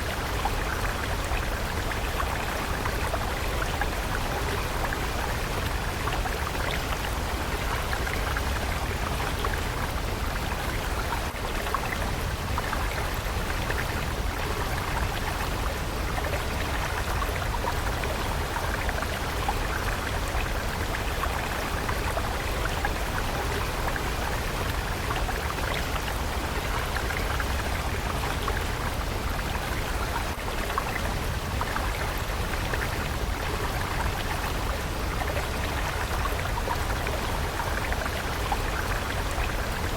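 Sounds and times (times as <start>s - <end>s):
water stream rushing: 0.0s - 39.9s.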